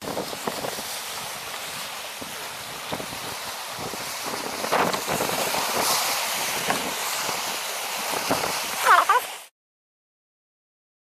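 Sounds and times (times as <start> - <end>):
wind buffeting microphone: 0.0 - 8.8
small waves washing against rocks: 0.0 - 9.5.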